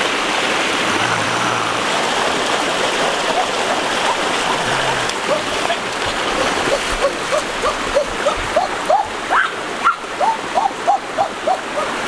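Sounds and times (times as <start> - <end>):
shallow stream rushing: 0.0 - 12.0.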